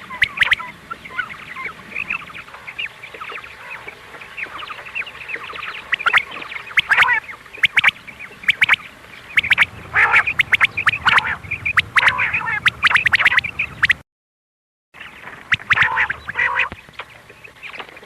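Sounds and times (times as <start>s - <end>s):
quail calls chattering: 0.0s - 14.0s, 15.5s - 18.0s.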